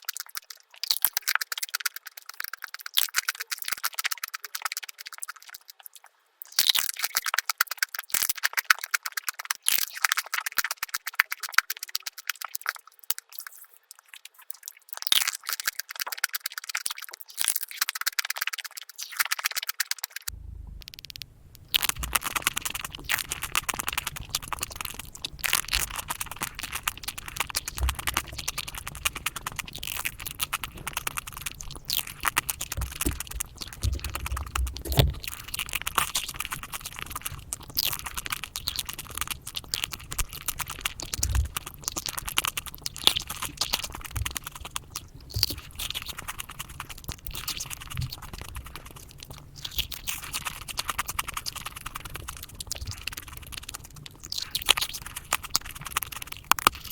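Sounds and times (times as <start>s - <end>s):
sped-up chewing crunches: 0.0s - 56.9s.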